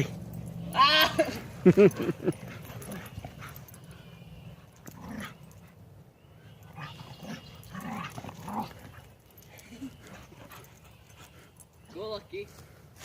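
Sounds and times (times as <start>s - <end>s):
dogs growling and whining: 0.0s - 11.3s.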